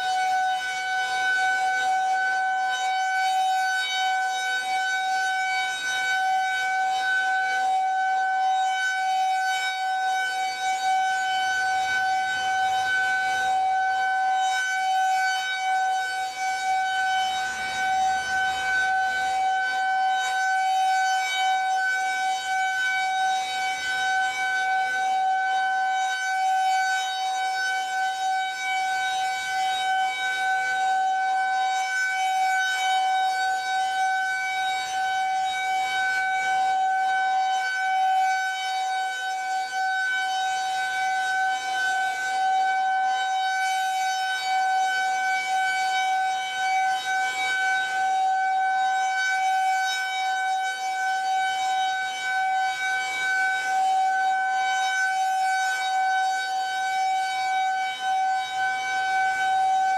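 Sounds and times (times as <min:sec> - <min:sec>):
rotating siren steady tone: 0:00.0 - 0:59.9.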